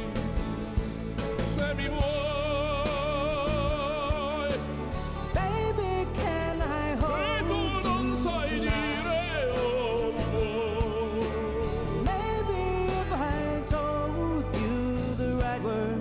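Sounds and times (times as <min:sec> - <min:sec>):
instrumental accompaniment: 0:00.0 - 0:16.0
person singing with vibrato: 0:01.6 - 0:16.0.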